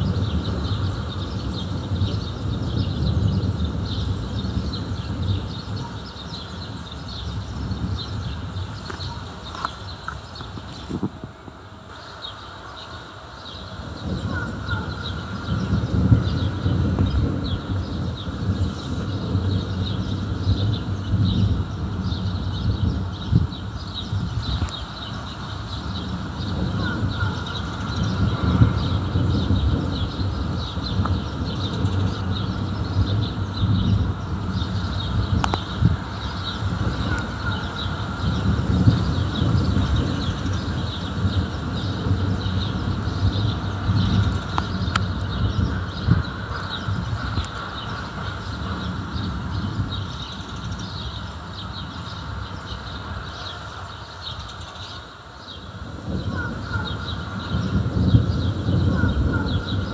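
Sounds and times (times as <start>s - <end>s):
small birds chirping: 0.0s - 59.9s
thunder rumbling: 0.0s - 59.9s.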